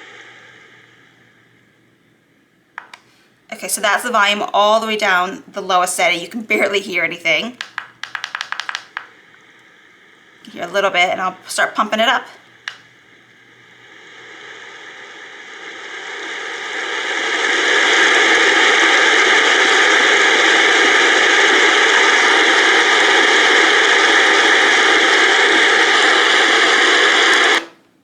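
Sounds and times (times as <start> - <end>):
white noise machine rain hiss: 0.0 - 28.0.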